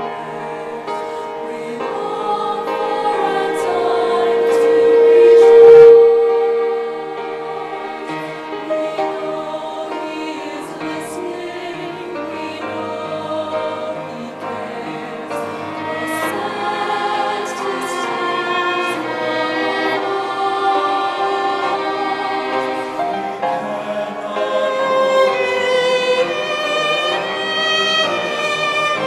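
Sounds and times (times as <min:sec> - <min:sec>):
mixed choir singing: 0:00.0 - 0:29.0
orchestral accompaniment: 0:00.0 - 0:29.0.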